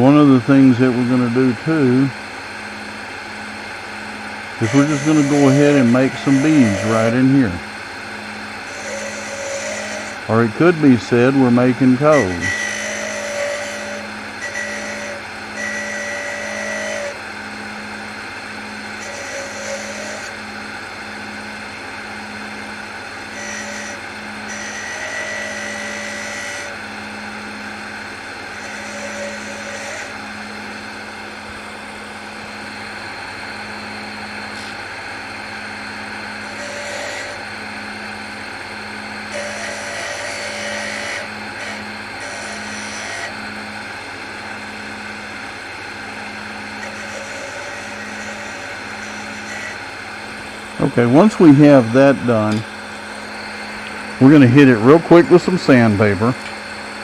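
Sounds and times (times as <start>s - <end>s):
gouge cutting spinning wood: 0.0s - 57.0s
wood lathe motor running: 0.0s - 57.0s.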